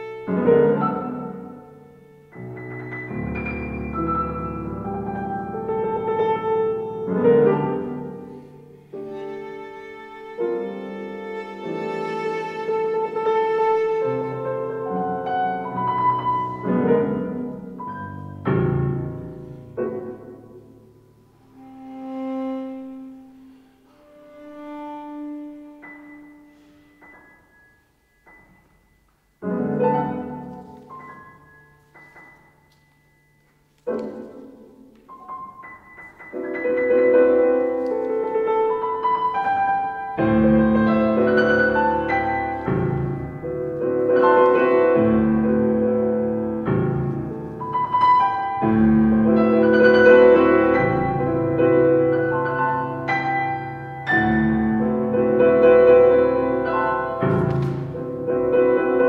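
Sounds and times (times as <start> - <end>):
cello: 0.0 - 27.4, 36.3 - 59.0
piano chords: 0.0 - 59.0.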